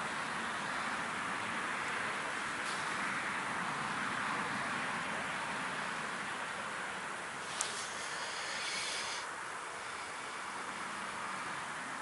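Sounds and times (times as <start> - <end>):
steady rushing background noise: 0.0 - 12.0.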